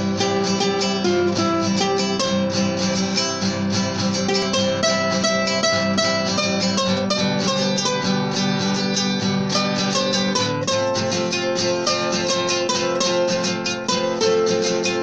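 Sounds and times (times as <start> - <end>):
acoustic guitars playing: 0.0 - 15.0.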